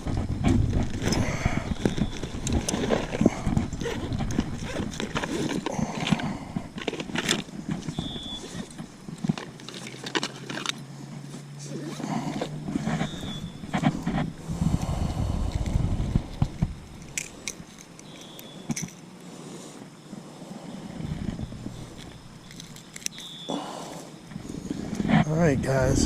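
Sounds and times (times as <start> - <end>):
rustling: 0.0 - 25.2.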